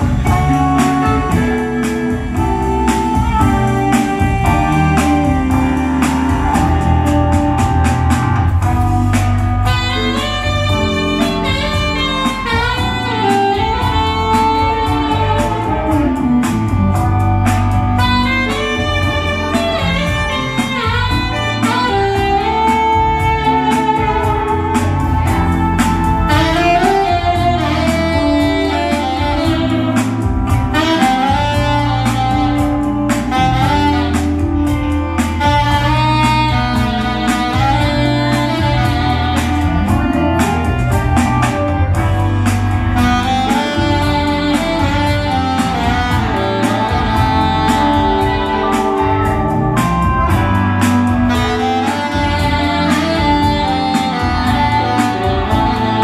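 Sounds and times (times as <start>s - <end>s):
beat and bass line: 0.0s - 56.0s
electric guitar: 0.0s - 56.0s
saxophone solo: 0.0s - 56.0s.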